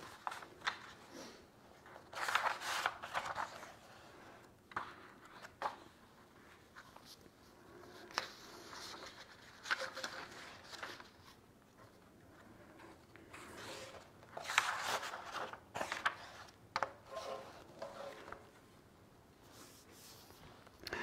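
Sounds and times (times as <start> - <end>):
paper pages rustling: 0.0 - 18.6, 19.4 - 20.9.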